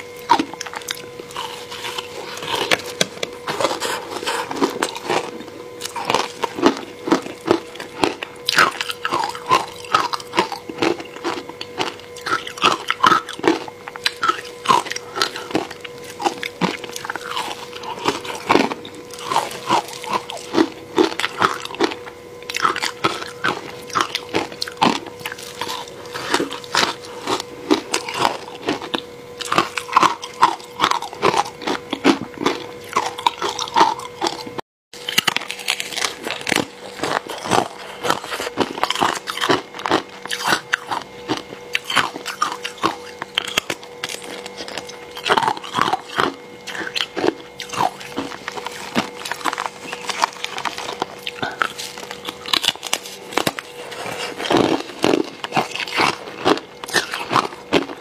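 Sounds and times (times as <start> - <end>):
crunchy ice chewing: 0.0 - 58.0
faint hum: 0.0 - 58.0.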